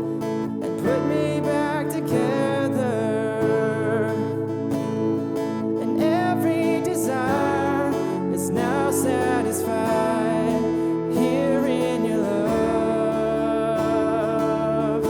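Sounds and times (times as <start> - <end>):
strummed acoustic guitar: 0.0 - 15.0
sung melody: 0.0 - 15.0.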